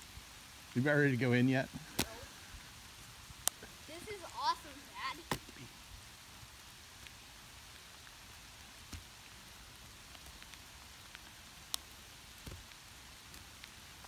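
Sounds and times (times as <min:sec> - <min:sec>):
hail falling on grass: 0:00.0 - 0:14.0.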